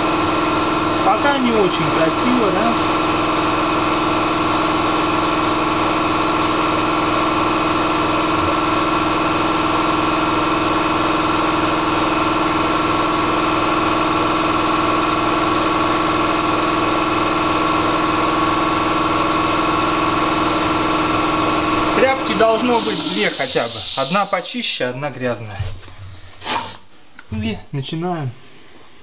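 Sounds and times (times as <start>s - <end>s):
machine humming: 0.0s - 24.7s.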